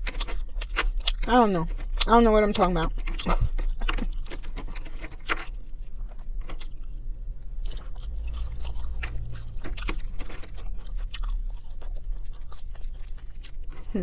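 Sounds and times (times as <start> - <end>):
crunchy chewing of fries: 0.0 - 14.0
low steady hum: 0.0 - 14.0.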